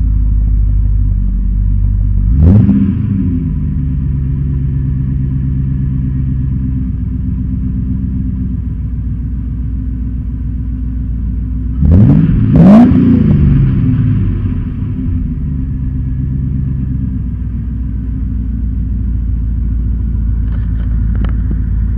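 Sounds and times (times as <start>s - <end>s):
engine idling and revving: 0.0s - 21.9s.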